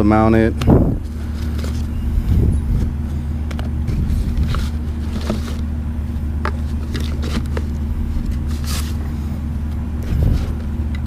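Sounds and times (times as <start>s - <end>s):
low mechanical hum: 0.0s - 11.0s
foam and cardboard rustling: 0.9s - 10.9s.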